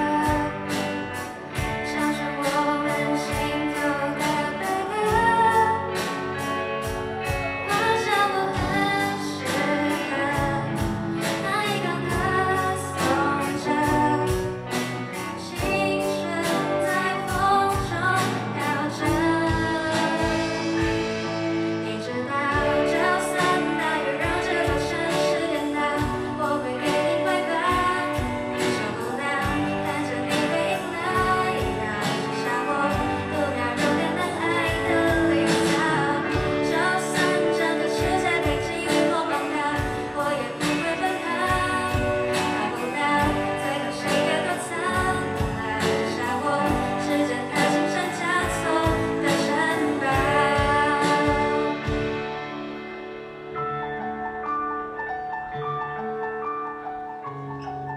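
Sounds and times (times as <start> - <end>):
steady drum beat: 0.0 - 21.9, 22.5 - 52.8
woman singing lead: 0.0 - 52.9
rock band playing: 0.0 - 57.9.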